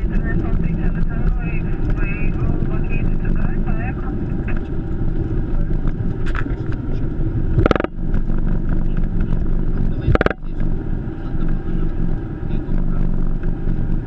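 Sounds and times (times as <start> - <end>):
rumble of wheels and engines: 0.0 - 14.0.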